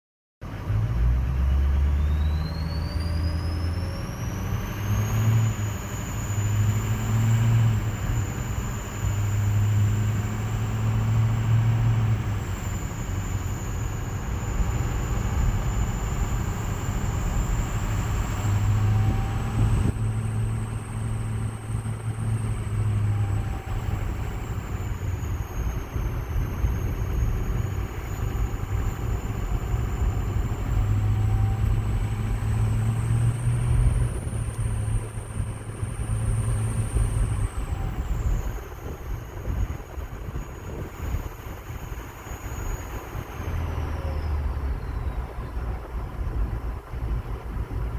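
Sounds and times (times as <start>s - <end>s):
diesel engine rumble: 0.4s - 47.9s
turbocharger whistling: 0.4s - 47.9s.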